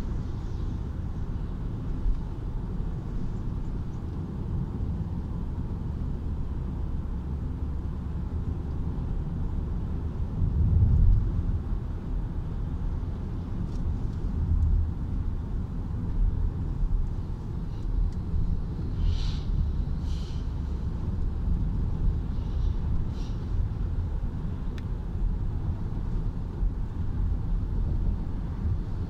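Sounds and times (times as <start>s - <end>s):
road and engine rumble in car: 0.0s - 29.0s.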